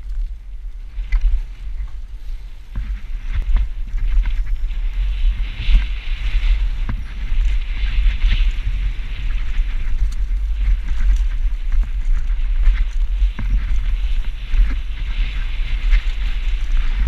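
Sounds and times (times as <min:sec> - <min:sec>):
wind buffeting microphone: 0:00.0 - 0:17.0
tyres hissing on dirt: 0:00.8 - 0:17.0
bike knocks and rattles: 0:02.7 - 0:17.0.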